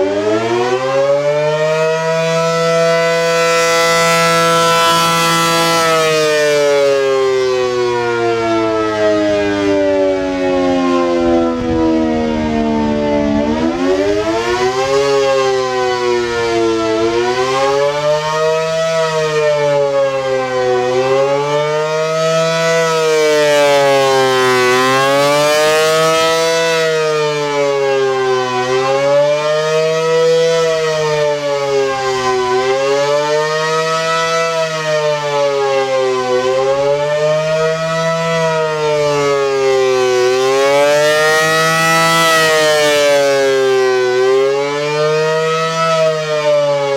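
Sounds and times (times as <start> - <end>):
electronic warning siren: 0.0 - 46.9.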